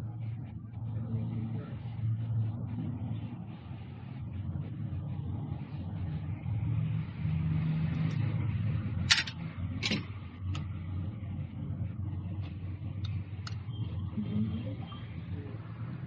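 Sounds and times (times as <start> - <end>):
engine running with low hum: 0.0 - 16.0.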